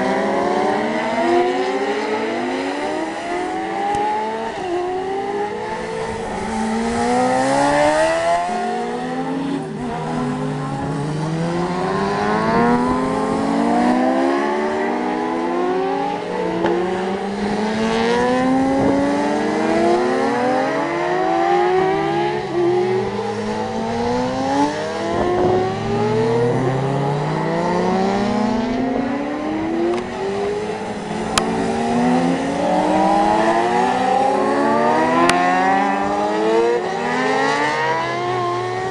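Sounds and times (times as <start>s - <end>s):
racing motorcycles accelerating: 0.0s - 38.9s.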